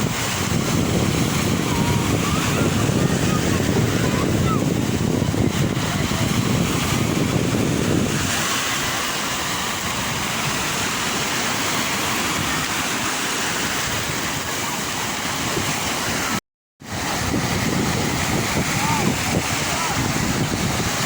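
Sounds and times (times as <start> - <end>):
low rumble of surf: 0.0 - 21.0
sea waves washing in: 0.0 - 21.0.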